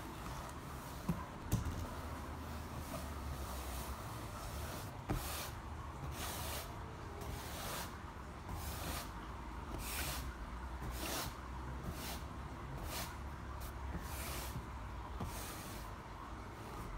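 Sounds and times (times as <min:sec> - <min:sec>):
ceramic tiles swishing on desk: 0:00.1 - 0:16.0.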